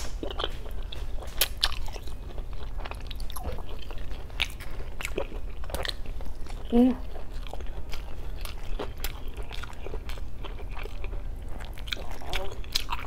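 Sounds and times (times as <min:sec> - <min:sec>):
close chewing with wet clicks: 0:00.2 - 0:13.0.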